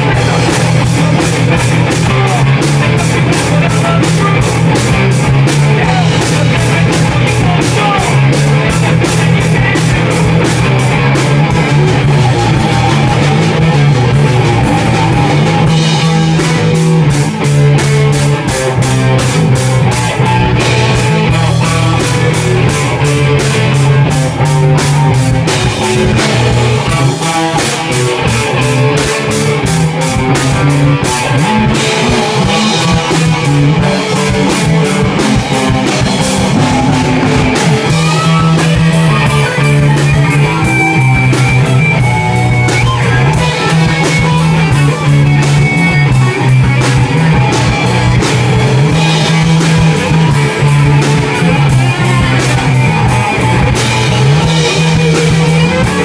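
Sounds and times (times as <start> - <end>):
rock band playing live: 0.0 - 56.0
steady cymbal beat: 0.0 - 56.0.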